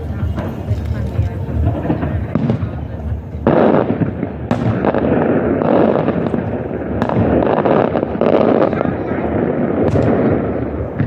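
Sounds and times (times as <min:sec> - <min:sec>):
fireworks crackling and banging: 0:00.0 - 0:11.0
sharp firework reports: 0:00.0 - 0:11.0.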